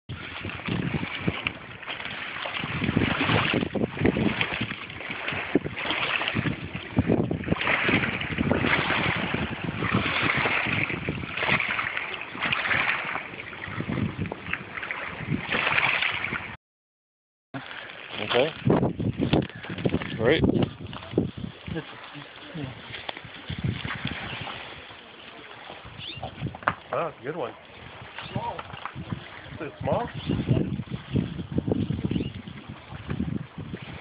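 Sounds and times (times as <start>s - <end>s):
water sloshing against bank: 0.1s - 16.6s, 17.6s - 34.0s
wind buffeting microphone: 0.1s - 16.6s, 18.1s - 34.0s.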